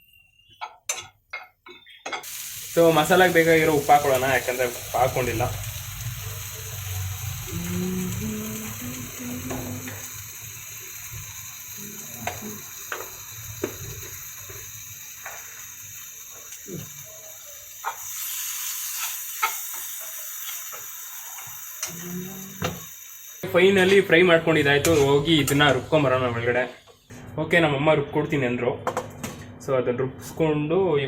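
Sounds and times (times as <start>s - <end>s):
food sizzling in a pan: 2.2s - 27.1s.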